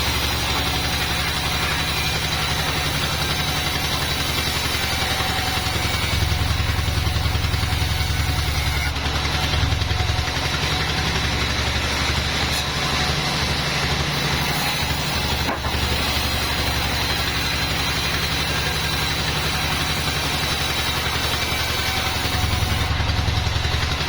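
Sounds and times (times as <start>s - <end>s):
sawmill engine droning: 0.0s - 24.0s.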